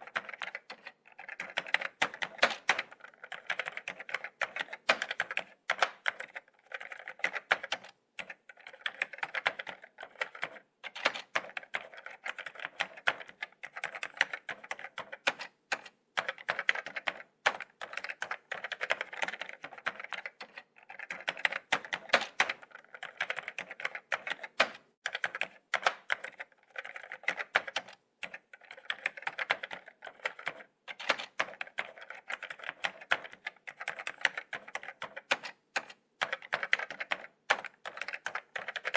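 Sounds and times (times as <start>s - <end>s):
laptop keyboard typing: 0.0s - 38.9s.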